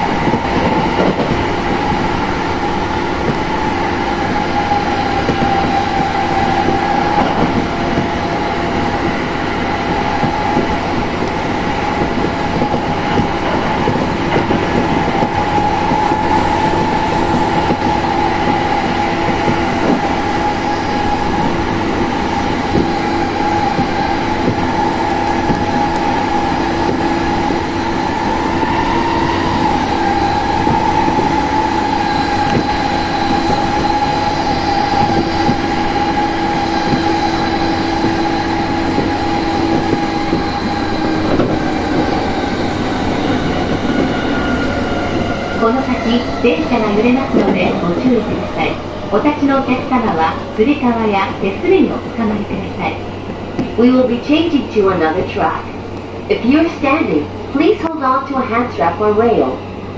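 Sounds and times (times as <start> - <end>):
steady train whine: 0.0 - 59.9
train wheels rumbling on rails: 0.0 - 59.9.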